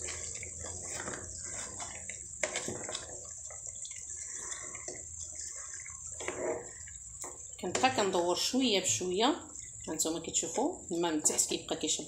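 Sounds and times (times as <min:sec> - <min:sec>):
meat simmering and bubbling: 0:00.0 - 0:12.0
wooden spoon stirring: 0:00.0 - 0:12.0.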